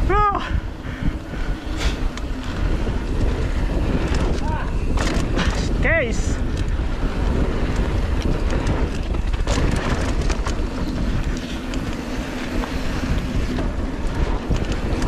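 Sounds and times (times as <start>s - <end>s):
bike clicks and rattles: 0.0s - 15.0s
bike tyres rolling on dirt: 0.0s - 15.0s
wind buffeting microphone: 0.0s - 15.0s.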